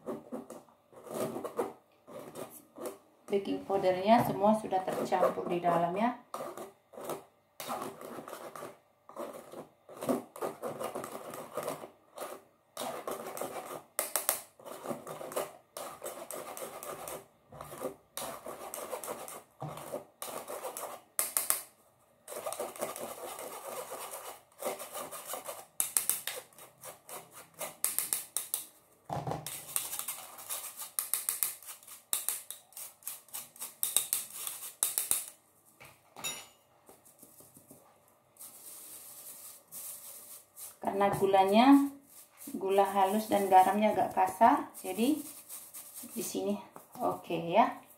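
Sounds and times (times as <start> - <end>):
spoon scraping flour through sieve: 3.8 - 21.1, 22.3 - 28.3, 29.4 - 35.3, 38.4 - 47.9.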